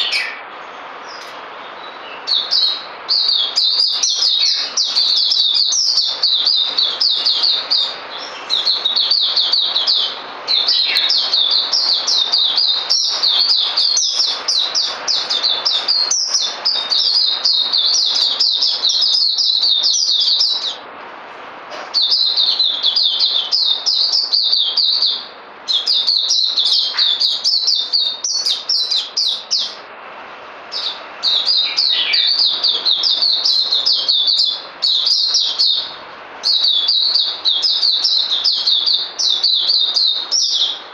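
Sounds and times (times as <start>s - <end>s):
bird chirping rapidly: 0.0s - 20.9s, 21.8s - 29.9s, 30.7s - 40.9s.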